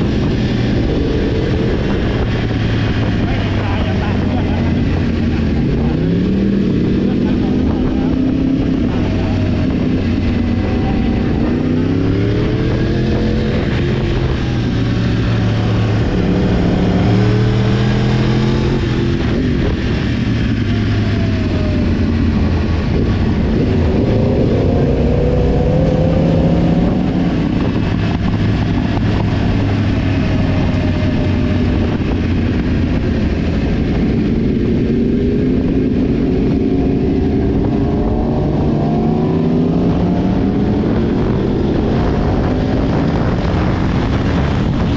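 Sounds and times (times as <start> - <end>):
motorcycle engine revving: 0.0 - 44.9
wind and road noise: 0.0 - 44.9.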